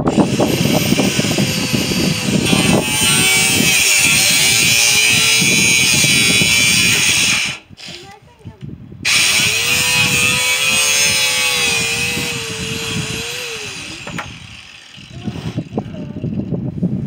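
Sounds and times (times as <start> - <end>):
power tool cutting metal pipe: 0.0 - 8.1, 9.1 - 16.4.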